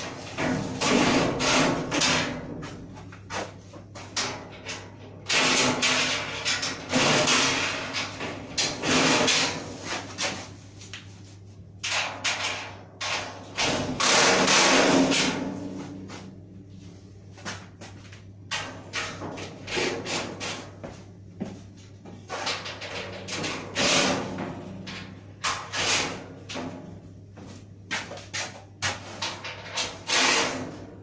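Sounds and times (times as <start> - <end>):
metal panels knocking and rattling: 0.0 - 10.6, 11.8 - 16.5, 17.4 - 21.0, 22.2 - 31.0.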